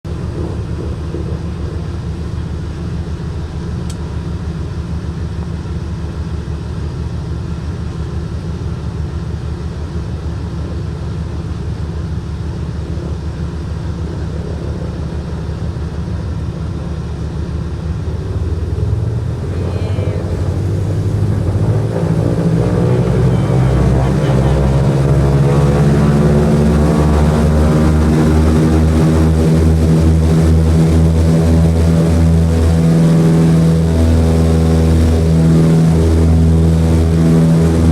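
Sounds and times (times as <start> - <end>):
propeller plane engines droning: 0.0 - 37.9.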